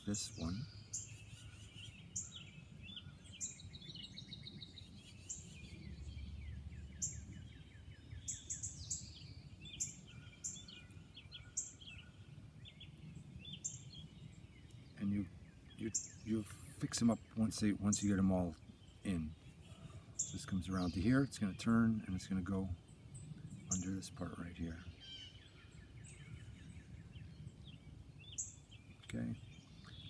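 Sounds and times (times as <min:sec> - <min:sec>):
low outdoor rumble: 0:00.0 - 0:30.0
songbirds chirping and trilling: 0:00.0 - 0:30.0.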